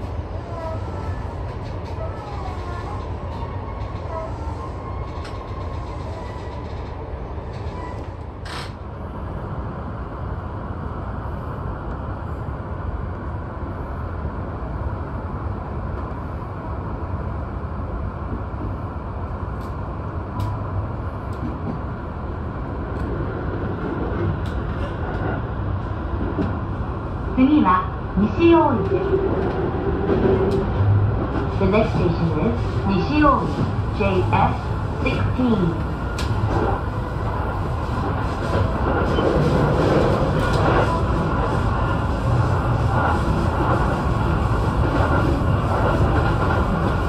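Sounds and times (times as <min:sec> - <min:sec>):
train running rumble: 0:00.0 - 0:47.0.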